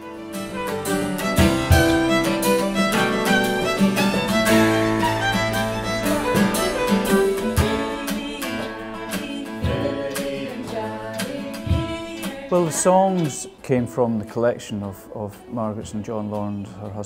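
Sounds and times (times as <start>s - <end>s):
fiddle playing a melody: 0.0s - 14.5s
acoustic guitar accompaniment: 0.0s - 17.0s.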